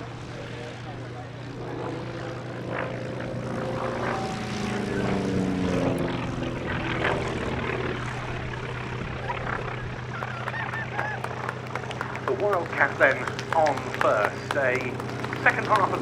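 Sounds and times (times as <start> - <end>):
propeller fighter plane flying past: 0.0 - 16.0.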